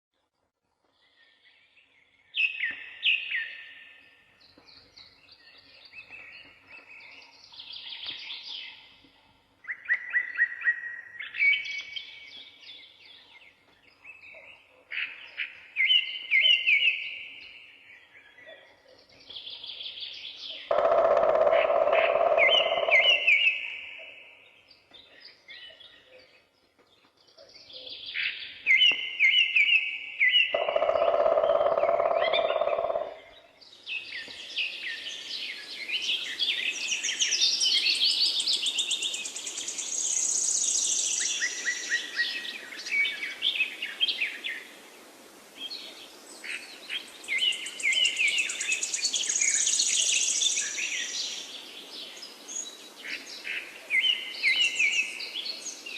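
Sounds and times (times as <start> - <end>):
songbirds singing: 0.8 - 55.9.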